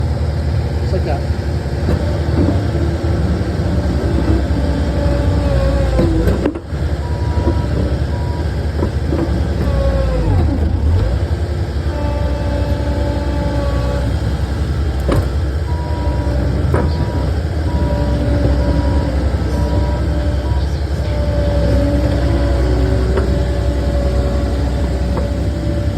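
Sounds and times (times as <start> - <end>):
diesel engine under load: 0.0 - 25.9.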